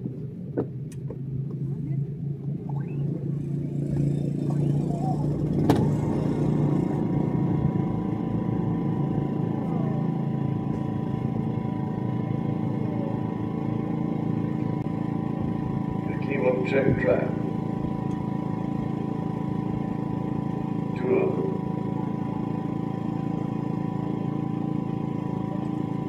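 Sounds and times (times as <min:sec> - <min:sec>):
low engine rumble: 0:00.0 - 0:26.0
steady higher hum: 0:00.0 - 0:26.0.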